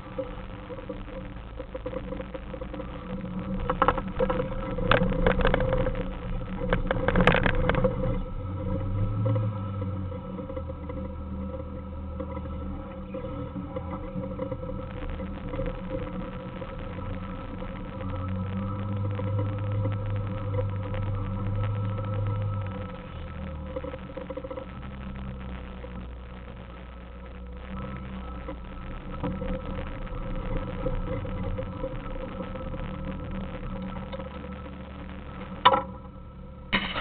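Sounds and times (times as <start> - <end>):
engine running at low speed: 0.0 - 37.0.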